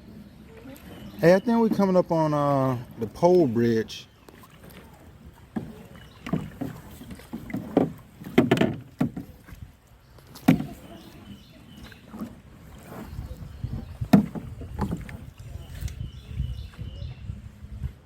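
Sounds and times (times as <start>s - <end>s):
canoe paddles splashing in water: 0.0s - 18.0s.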